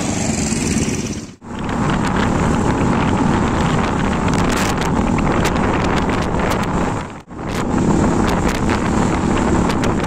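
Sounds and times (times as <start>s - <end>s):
motorcycle engine running: 0.0s - 10.0s
wind rushing on microphone: 1.4s - 10.0s.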